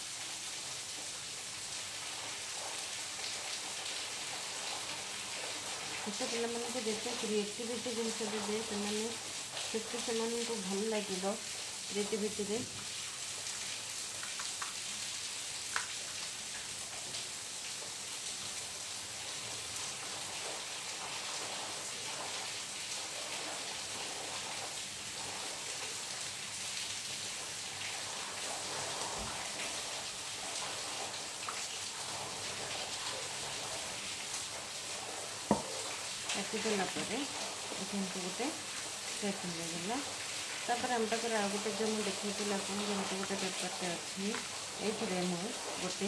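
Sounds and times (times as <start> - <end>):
background hiss: 0.0 - 46.0.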